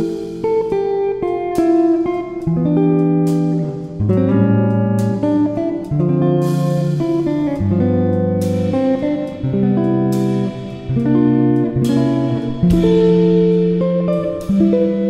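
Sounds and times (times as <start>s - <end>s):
guitar-led background music: 0.0s - 15.0s.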